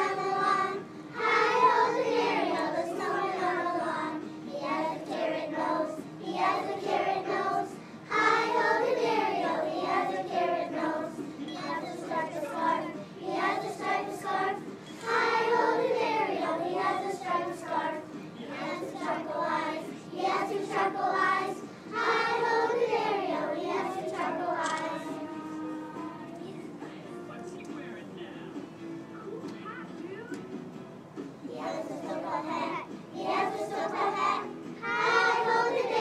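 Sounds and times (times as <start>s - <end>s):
young children singing in unison: 0.0s - 26.4s, 31.4s - 36.0s.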